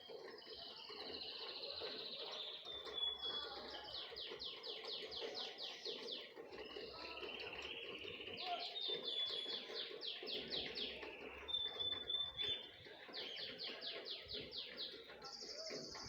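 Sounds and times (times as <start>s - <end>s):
small birds singing: 0.0s - 16.0s.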